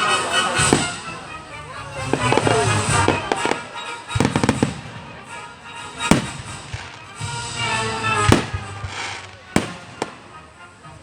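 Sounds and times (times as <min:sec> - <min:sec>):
fireworks crackling and banging: 0:00.0 - 0:11.0
music playing: 0:00.0 - 0:11.0.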